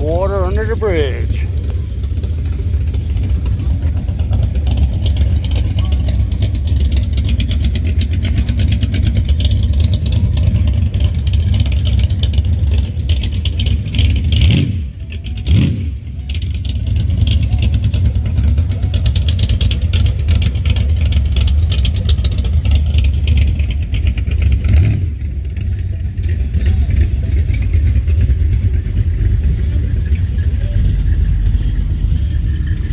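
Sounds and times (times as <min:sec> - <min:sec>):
car exhaust rumbling: 0:00.0 - 0:32.9
engine revving: 0:00.0 - 0:32.9.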